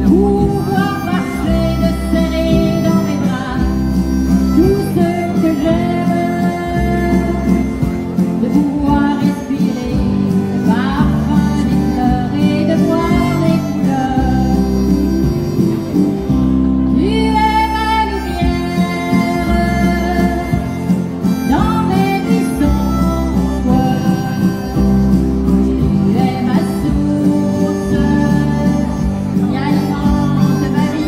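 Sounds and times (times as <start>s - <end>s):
acoustic guitar: 0.0s - 31.0s
bass line: 0.0s - 31.0s
harmonica playing: 0.0s - 31.0s.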